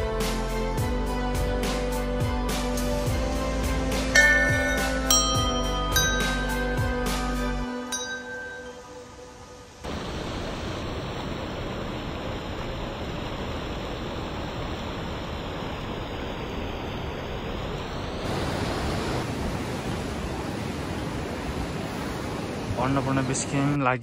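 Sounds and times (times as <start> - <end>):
steady rushing noise: 3.0 - 23.8.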